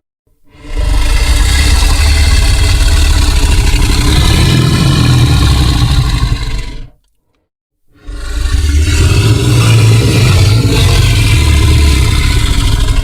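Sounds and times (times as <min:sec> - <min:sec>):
deep rumbling monster growl: 0:00.5 - 0:07.0, 0:08.0 - 0:13.0.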